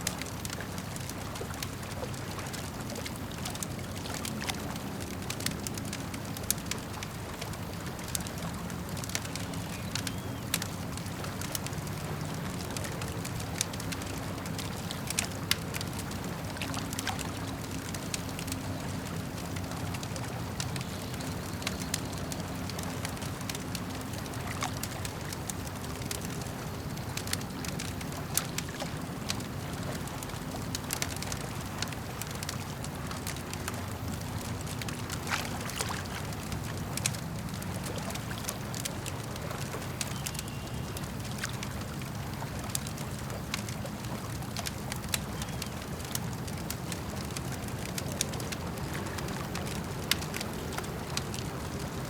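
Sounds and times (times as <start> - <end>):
campfire crackling and popping: 0.0 - 52.0
lake water lapping: 0.0 - 52.0.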